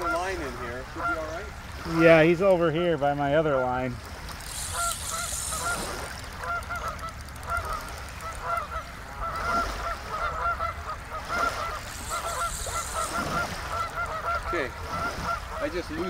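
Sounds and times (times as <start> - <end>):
geese honking: 0.0 - 1.5, 4.5 - 16.0.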